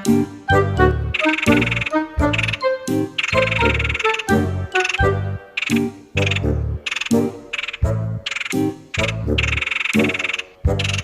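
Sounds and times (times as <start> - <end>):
music of short pitched notes: 0.1 - 11.0.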